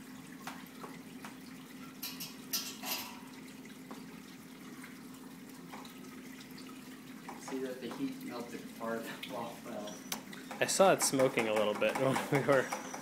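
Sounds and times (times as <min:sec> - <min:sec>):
liquid trickling and splashing: 0:00.0 - 0:13.0.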